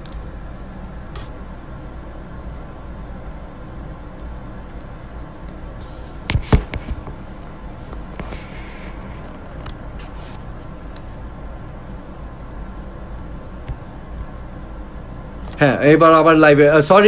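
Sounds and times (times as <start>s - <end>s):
low background hum and hiss: 0.0s - 17.0s.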